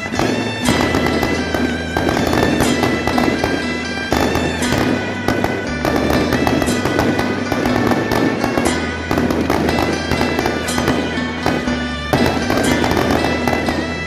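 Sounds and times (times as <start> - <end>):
rapid firecracker crackle: 0.0 - 14.0.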